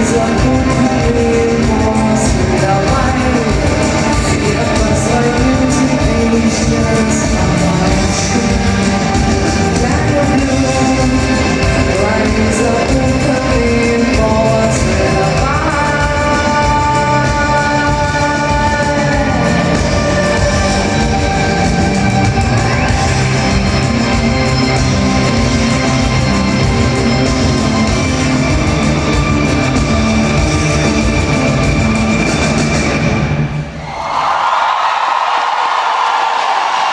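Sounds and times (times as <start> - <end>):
live rock band playing: 0.0 - 33.6.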